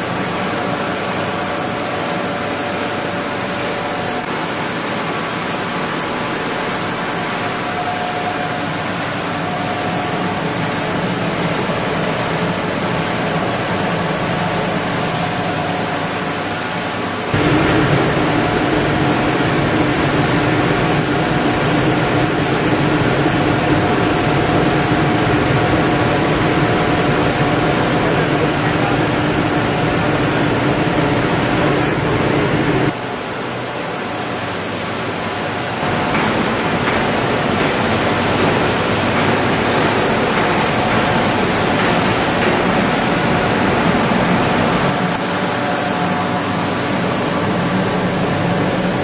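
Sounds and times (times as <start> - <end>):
machinery noise with low hum: 0.0 - 49.0.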